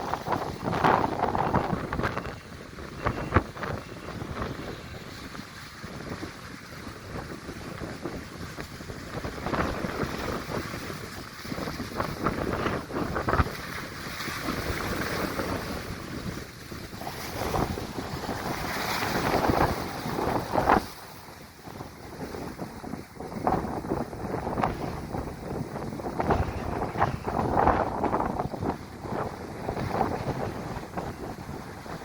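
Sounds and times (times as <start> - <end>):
waves surging and splashing: 0.0 - 32.0
wind buffeting microphone: 0.0 - 32.0.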